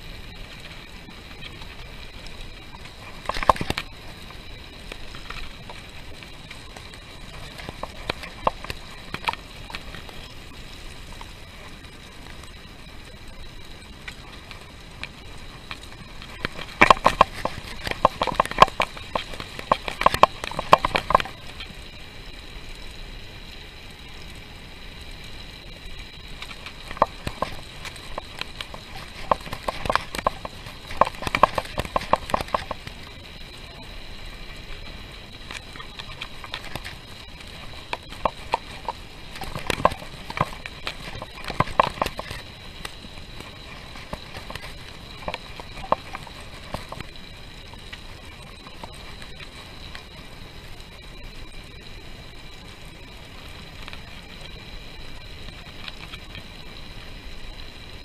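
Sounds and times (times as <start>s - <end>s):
bicycle rattling over bumps: 0.0s - 24.0s, 25.3s - 58.0s
faint steady high tone: 0.0s - 58.0s.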